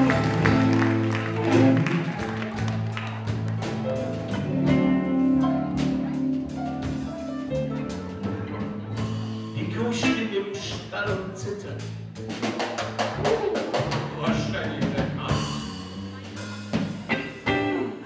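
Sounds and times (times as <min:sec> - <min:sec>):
live band with electric guitars: 0:00.0 - 0:18.0.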